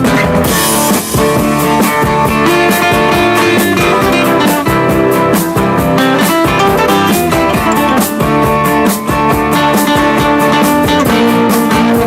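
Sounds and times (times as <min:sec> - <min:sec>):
instrumental rock band music: 0:00.0 - 0:12.0.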